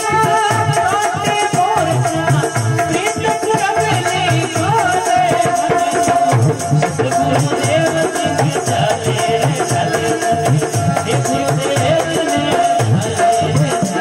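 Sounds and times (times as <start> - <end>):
hand drum beat: 0.0 - 14.0
jingling rattle percussion: 0.0 - 14.0.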